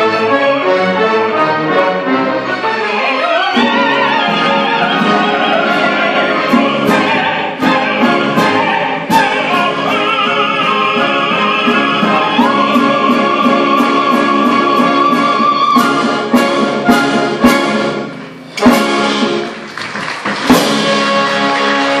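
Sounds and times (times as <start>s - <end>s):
orchestra chords with brass: 0.0s - 19.8s, 20.4s - 22.0s.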